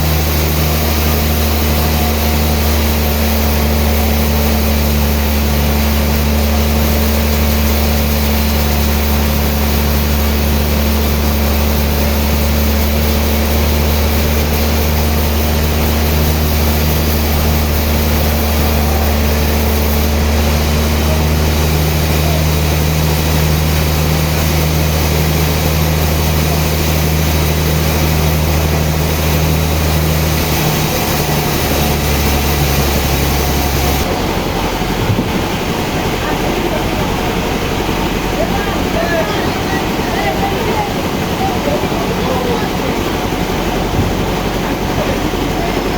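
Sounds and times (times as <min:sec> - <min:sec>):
machinery hiss: 0:00.0 - 0:45.9
sawmill machinery drone: 0:00.0 - 0:45.9.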